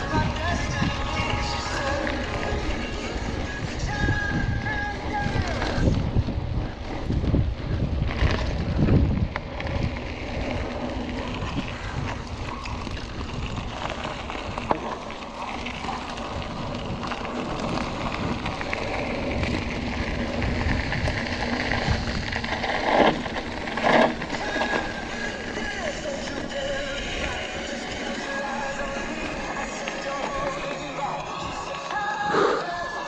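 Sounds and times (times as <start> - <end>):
wind buffeting microphone: 0.0 - 30.6
bicycle tyres rolling over gravel: 0.0 - 33.0.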